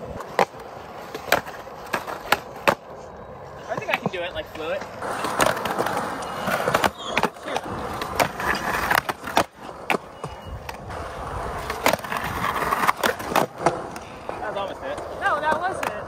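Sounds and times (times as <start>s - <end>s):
skateboard clacking on ground: 0.0s - 16.0s
skateboard trucks grinding on concrete: 0.0s - 16.0s
skateboard wheels rolling on concrete: 0.0s - 16.0s.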